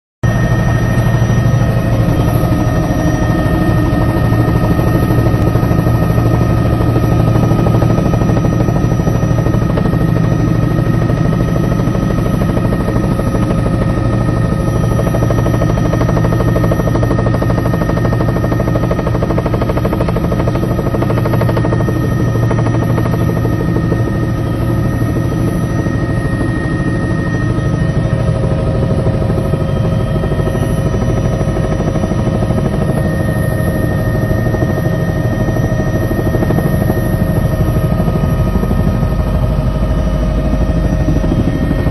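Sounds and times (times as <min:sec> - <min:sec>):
helicopter rotor and turbine noise: 0:00.2 - 0:41.9
high-pitched whine: 0:00.2 - 0:41.9.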